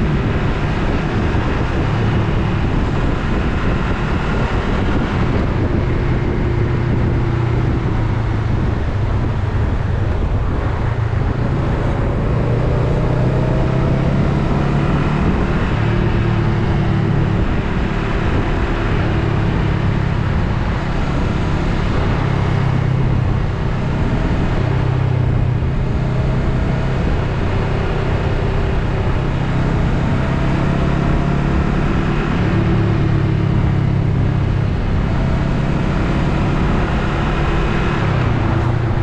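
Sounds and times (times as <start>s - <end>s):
motorcycle engine running: 0.0s - 39.0s
road noise: 0.0s - 39.0s
wind rushing: 0.0s - 39.0s.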